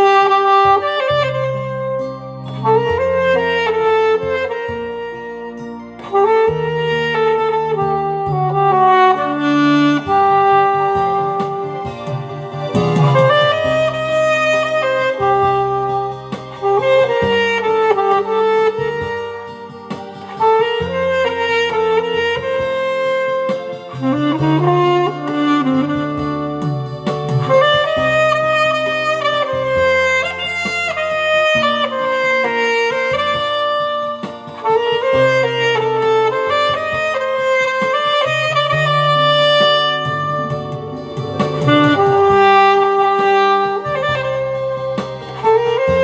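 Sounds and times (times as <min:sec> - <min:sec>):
alto saxophone melody: 0:00.0 - 0:46.0
sustained bass line: 0:00.0 - 0:46.0.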